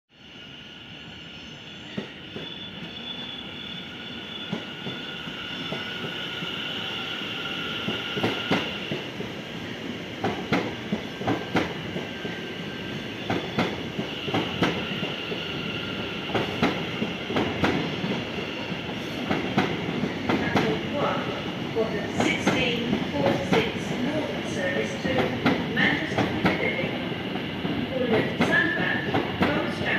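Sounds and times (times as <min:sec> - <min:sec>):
train high whine: 0:00.1 - 0:29.9.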